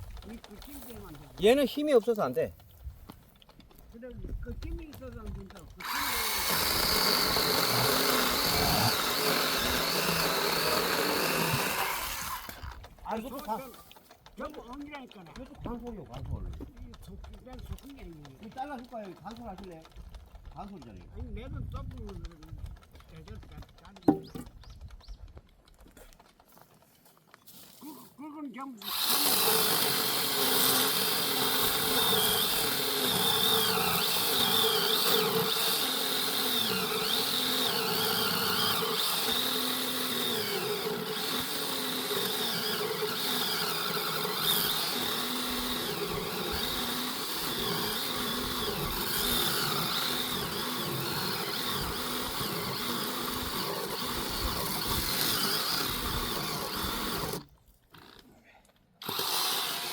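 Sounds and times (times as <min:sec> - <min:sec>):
chainsaw cutting wood: 0:00.0 - 0:03.8, 0:05.2 - 0:15.9, 0:16.5 - 0:20.7, 0:22.1 - 0:24.6, 0:28.7 - 0:58.2, 0:59.0 - 0:59.9.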